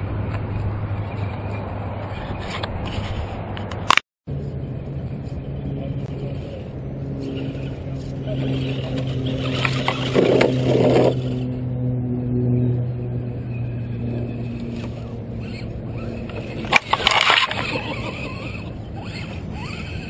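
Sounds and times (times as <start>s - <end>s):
toy truck motor and gears humming: 0.6s - 4.0s, 5.2s - 11.6s, 13.2s - 20.0s.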